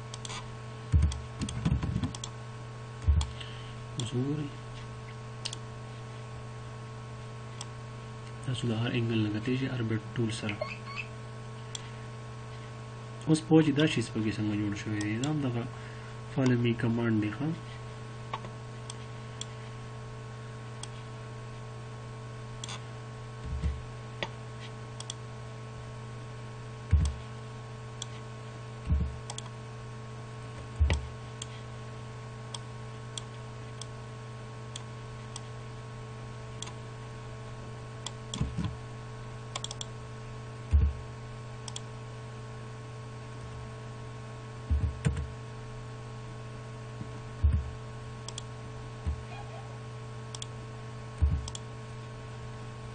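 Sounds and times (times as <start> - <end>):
steady electrical hum: 0.0 - 52.9.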